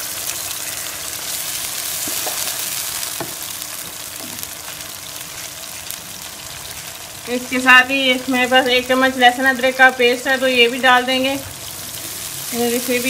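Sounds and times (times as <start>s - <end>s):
chicken and onions sizzling: 0.0s - 13.0s.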